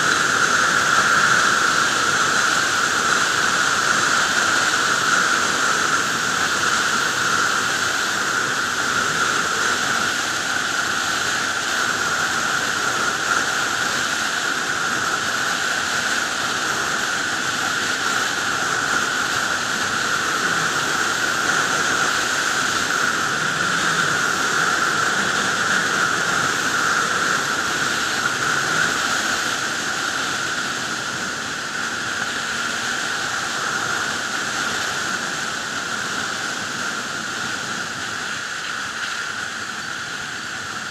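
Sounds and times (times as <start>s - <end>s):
wind rush on microphone: 0.0s - 40.9s.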